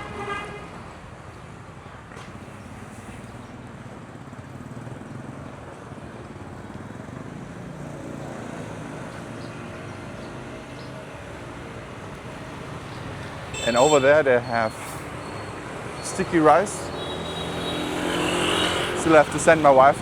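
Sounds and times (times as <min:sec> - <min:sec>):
motorbike engines passing: 0:00.9 - 0:20.0.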